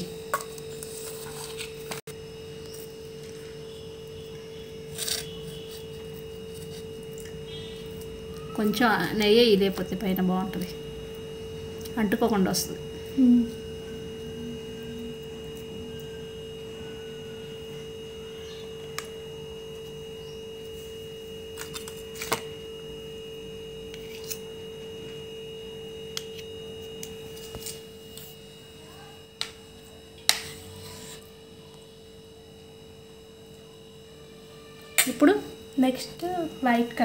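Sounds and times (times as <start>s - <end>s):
steady humming tone: 0.0s - 37.0s.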